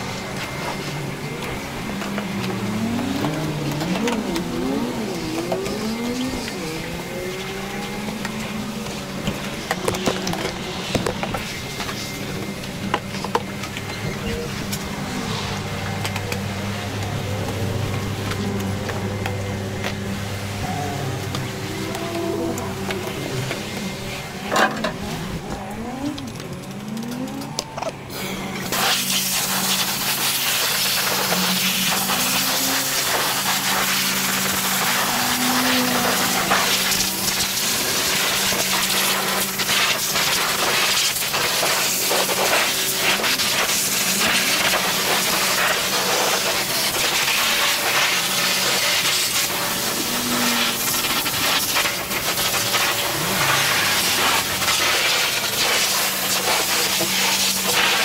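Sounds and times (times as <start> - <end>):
pressure washer spraying water: 0.0 - 25.4, 28.1 - 58.0.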